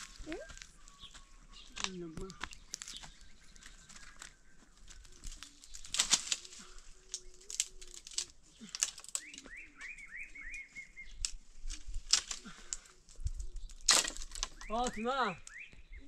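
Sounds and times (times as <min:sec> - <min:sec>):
bird chirping: 0:00.0 - 0:11.4, 0:13.2 - 0:16.0
leaves and branches rustling: 0:00.0 - 0:15.8.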